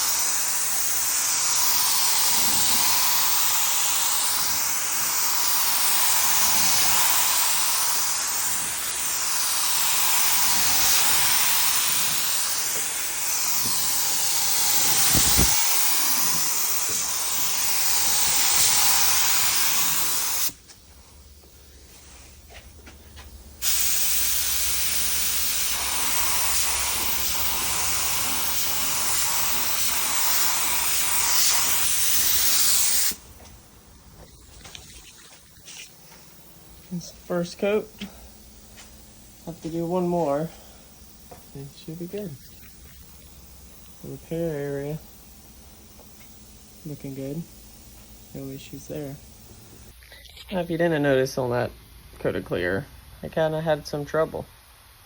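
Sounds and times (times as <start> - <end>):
spray gun hissing: 0.0 - 50.0.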